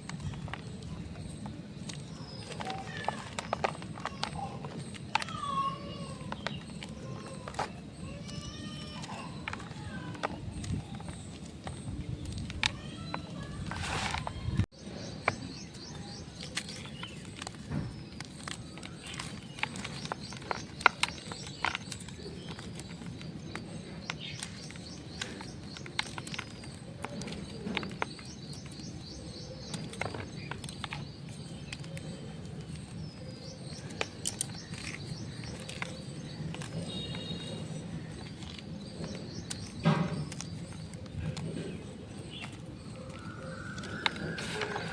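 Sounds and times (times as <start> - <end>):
chalk crunching and crumbling: 0.0 - 44.9
faint birds chirping: 0.0 - 44.9.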